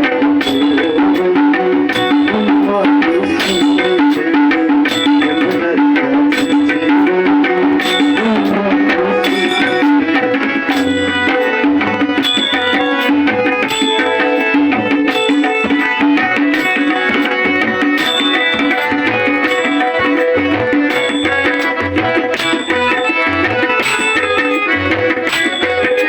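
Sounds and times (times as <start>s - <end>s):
sustained accompanying notes: 0.0s - 26.0s
tabla playing a rhythm: 0.0s - 26.0s.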